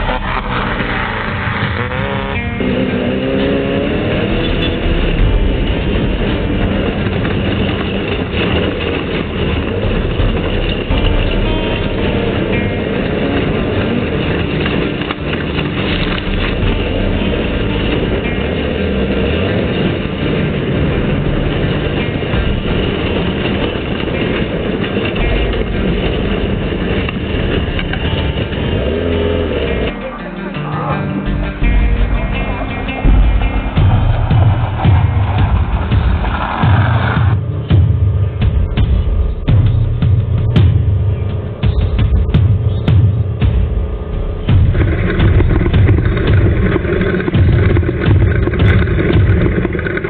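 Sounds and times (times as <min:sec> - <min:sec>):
car knocking and clattering: 0:00.0 - 0:30.0, 0:31.2 - 0:50.0
off-road vehicle engine accelerating: 0:00.0 - 0:50.0.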